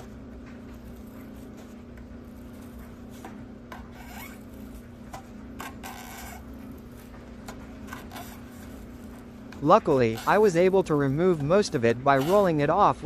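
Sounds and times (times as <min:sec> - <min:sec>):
steady low hum: 0:00.0 - 0:13.0
rubbing and scraping strokes: 0:00.6 - 0:05.0, 0:05.6 - 0:13.0.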